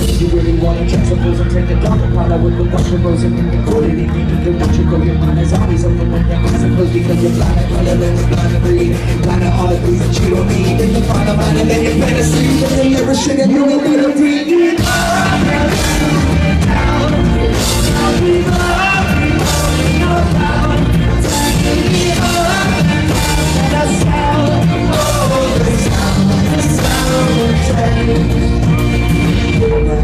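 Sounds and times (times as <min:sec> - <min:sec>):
band playing: 0:00.0 - 0:30.0
person singing: 0:00.0 - 0:30.0.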